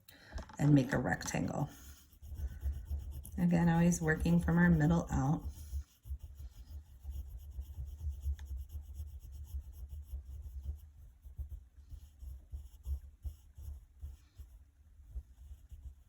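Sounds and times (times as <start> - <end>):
pencil scratching on paper: 0.6 - 16.0.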